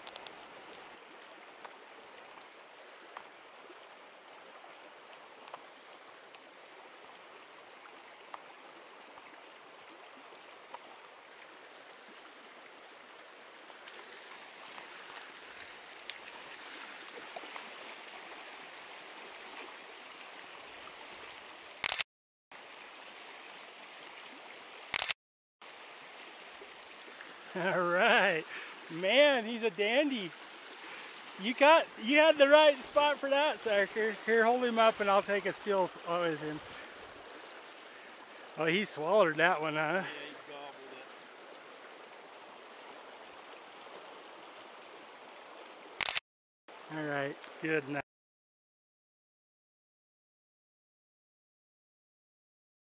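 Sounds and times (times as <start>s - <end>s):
creek rushing over gravel: 0.0s - 21.8s, 22.5s - 24.9s, 25.6s - 46.0s, 46.7s - 48.0s.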